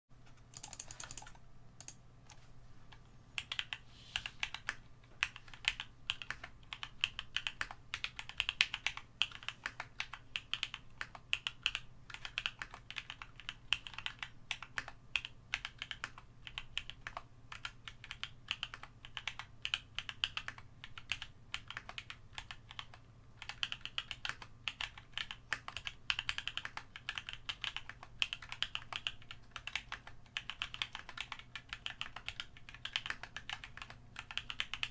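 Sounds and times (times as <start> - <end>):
mechanical keyboard typing: 0.3 - 2.0, 3.4 - 34.9.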